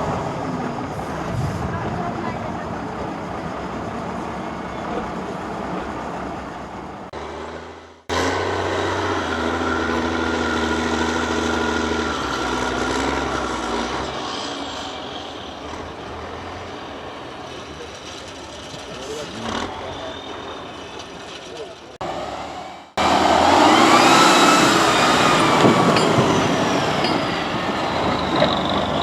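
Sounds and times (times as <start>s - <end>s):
truck engine rumbling under load: 0.0s - 29.0s.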